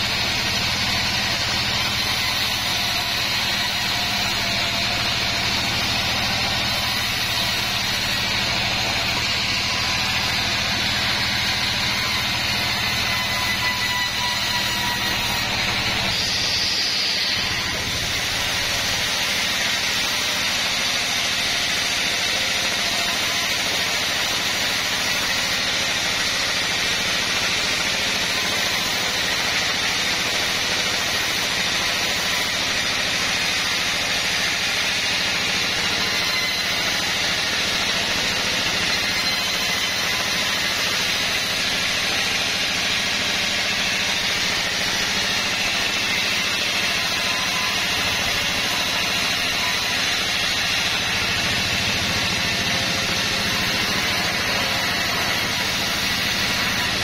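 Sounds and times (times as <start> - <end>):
band saw cutting timber: 0.0 - 57.0.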